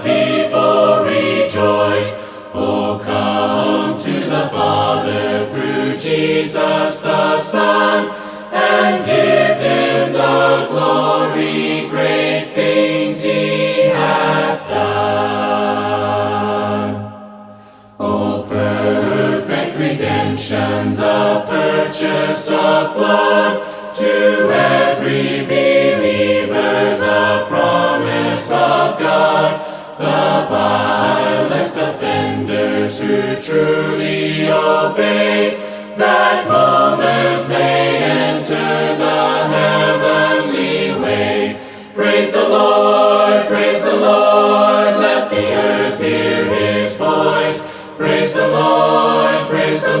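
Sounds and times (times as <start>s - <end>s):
choir singing a hymn: 0.0s - 50.0s.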